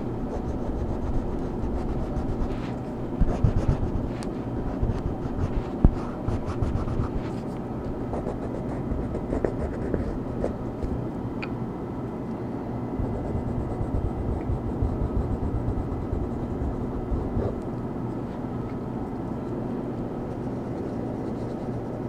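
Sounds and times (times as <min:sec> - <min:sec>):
coloring strokes scratching on paper: 0:00.0 - 0:10.6, 0:13.0 - 0:18.4, 0:19.1 - 0:22.0
steady white noise: 0:00.0 - 0:22.0.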